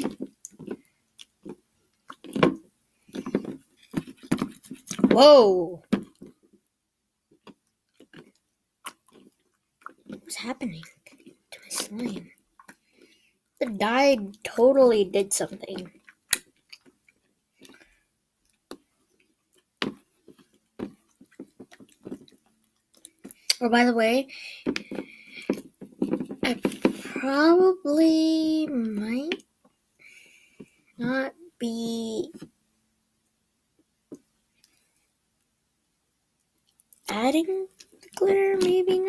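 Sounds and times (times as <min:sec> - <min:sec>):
slime squelch: 0:00.0 - 0:06.4, 0:07.4 - 0:32.5.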